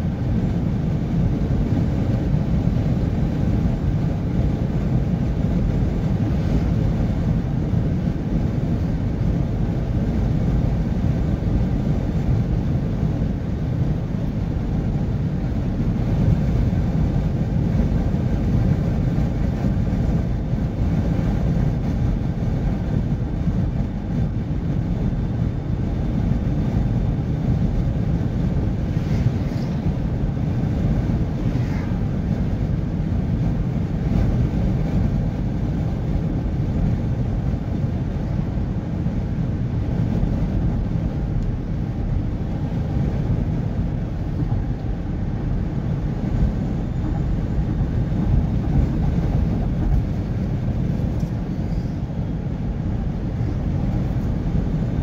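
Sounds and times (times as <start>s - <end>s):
vehicle road noise rumble: 0.0s - 55.0s.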